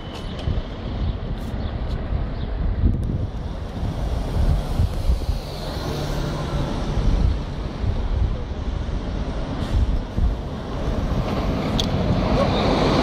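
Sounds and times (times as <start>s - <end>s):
bus engine rumbling: 0.0s - 13.0s
city street traffic: 0.0s - 13.0s.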